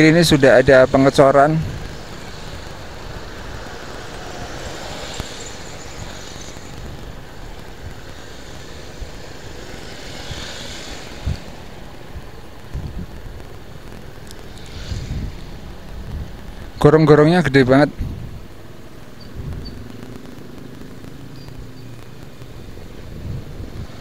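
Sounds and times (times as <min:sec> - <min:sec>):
wind on microphone: 0:00.0 - 0:16.8, 0:17.9 - 0:24.0
engine and tyre rumble: 0:00.0 - 0:24.0
motorcycles passing: 0:00.0 - 0:24.0.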